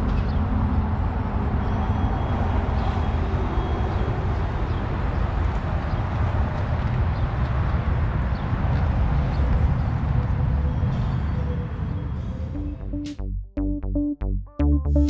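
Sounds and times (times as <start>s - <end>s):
wind and road noise: 0.0s - 12.6s.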